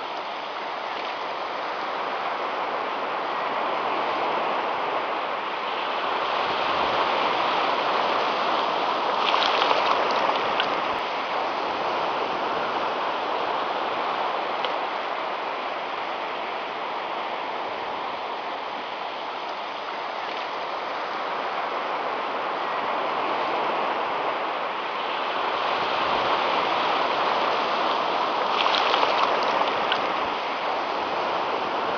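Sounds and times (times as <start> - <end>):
surf washing onto beach: 0.0 - 31.9.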